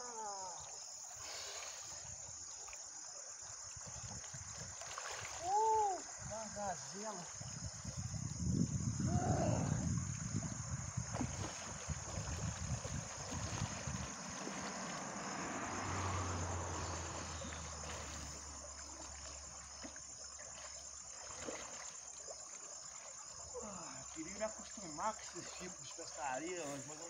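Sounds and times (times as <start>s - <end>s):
high insect buzz: 0.0s - 27.0s
river water rushing and splashing: 0.8s - 8.2s, 10.3s - 27.0s.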